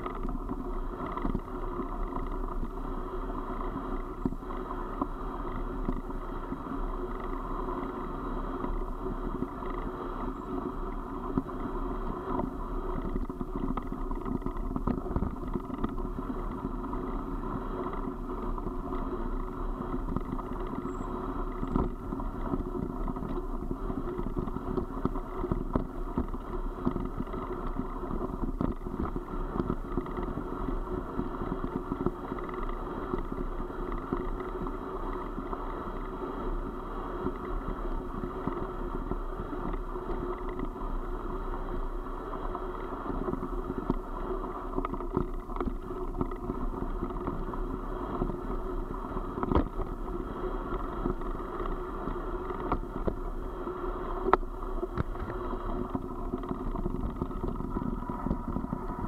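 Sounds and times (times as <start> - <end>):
wheels rolling on gravel: 0.0 - 59.0
wind on microphone: 0.0 - 59.0.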